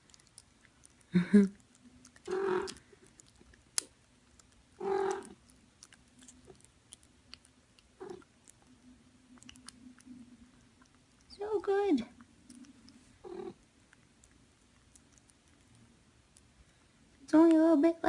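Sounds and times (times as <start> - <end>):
cat purring: 0.0 - 3.5, 4.4 - 16.5.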